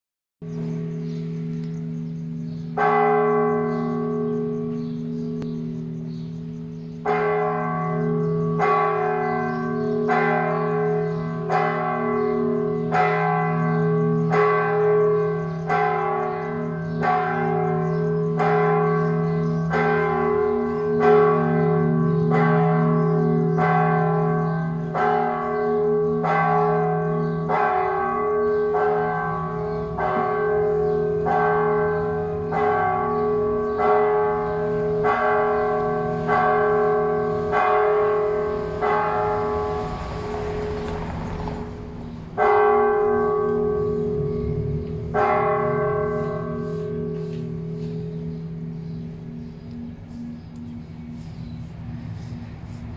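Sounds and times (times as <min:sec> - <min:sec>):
church bell striking: 0:00.4 - 0:52.8.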